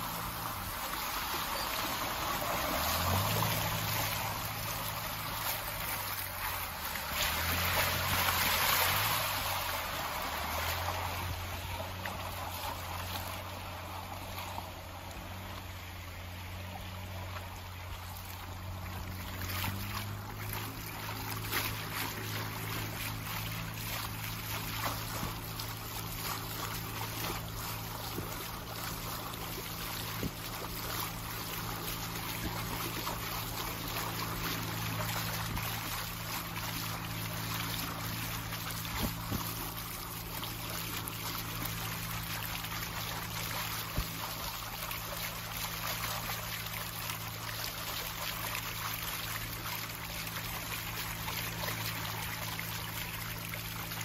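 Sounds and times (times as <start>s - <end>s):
boat motor humming: 0.0s - 54.0s
river water splashing on hull: 0.0s - 54.0s.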